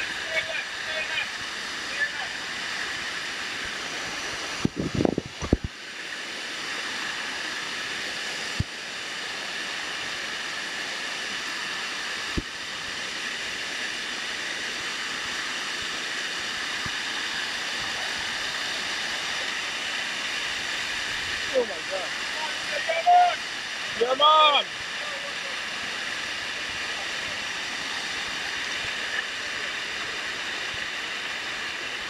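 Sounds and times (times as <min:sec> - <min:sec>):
water rushing over rock steps: 0:00.0 - 0:32.0.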